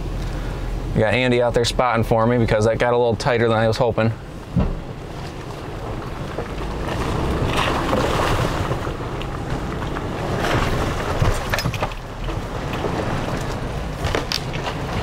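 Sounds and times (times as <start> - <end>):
low engine rumble: 0.0 - 15.0
tyres working through mud: 0.0 - 15.0.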